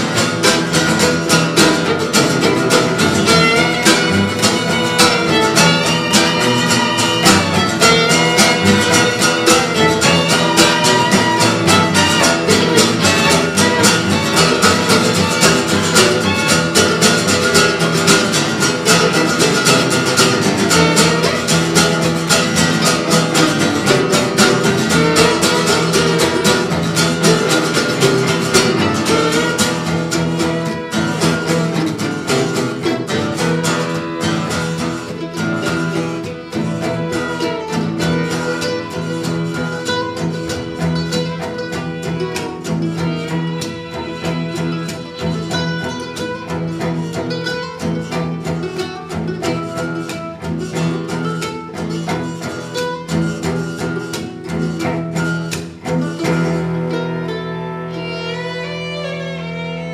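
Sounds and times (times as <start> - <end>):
cello bowing: 0.0 - 59.9
fiddle bowing: 0.0 - 59.9
picked mandolin: 0.0 - 59.9
strummed acoustic guitar: 0.0 - 59.9.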